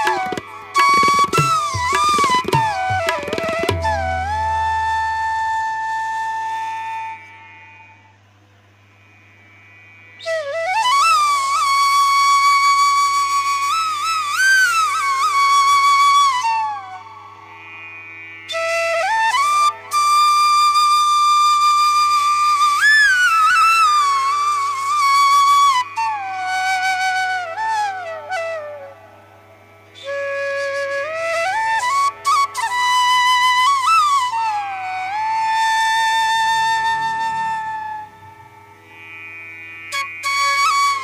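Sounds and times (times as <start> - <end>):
solo flute: 0.0 - 8.2, 10.2 - 17.8, 18.5 - 39.0, 39.8 - 41.0.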